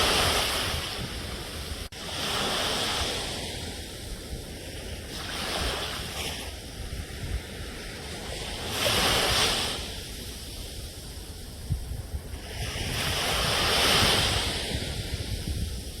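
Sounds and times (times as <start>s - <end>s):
waves washing in: 0.0s - 16.0s.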